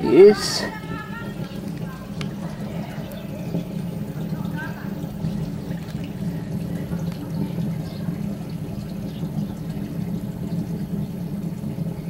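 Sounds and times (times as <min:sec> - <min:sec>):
stove fire low rumble: 0:00.0 - 0:12.0.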